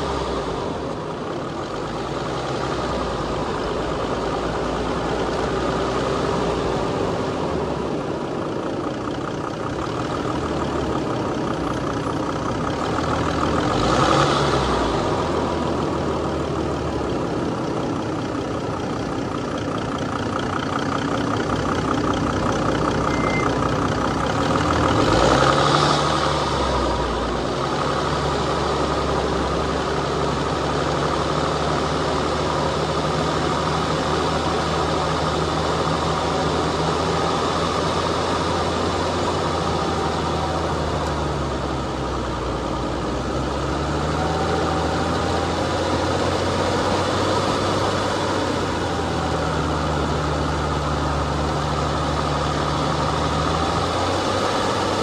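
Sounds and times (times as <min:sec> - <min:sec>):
off-road vehicle engine: 0:00.0 - 0:55.0.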